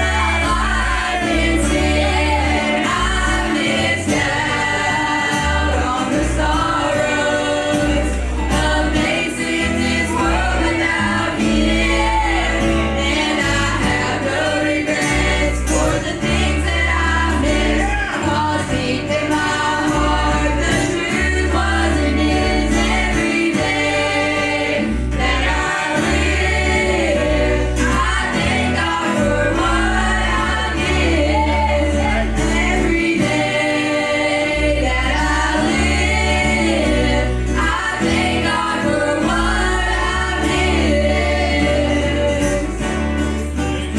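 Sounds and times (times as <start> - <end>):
gospel group singing in harmony: 0.0 - 43.9
instrumental accompaniment: 0.0 - 43.9.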